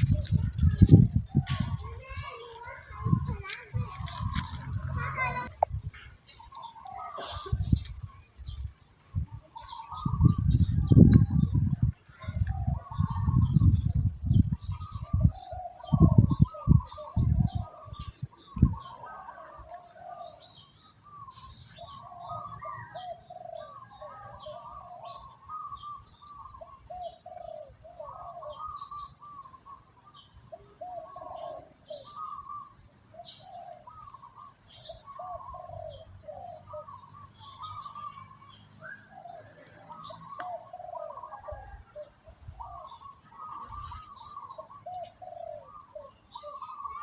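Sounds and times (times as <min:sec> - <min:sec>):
doves cooing: 0:00.0 - 0:05.6, 0:06.3 - 0:08.6, 0:09.2 - 0:14.0, 0:14.6 - 0:47.0.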